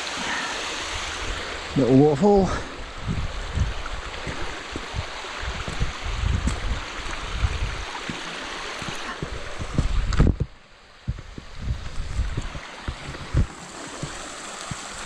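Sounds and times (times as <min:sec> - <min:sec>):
waterfall rushing: 0:00.0 - 0:10.1, 0:12.5 - 0:15.0
wind thumps on microphone: 0:02.8 - 0:15.0.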